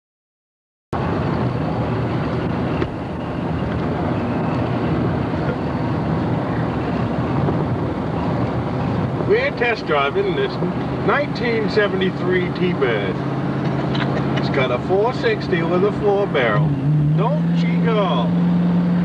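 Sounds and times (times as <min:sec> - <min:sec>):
road noise: 0:00.9 - 0:19.0
car engine drone: 0:01.0 - 0:19.0.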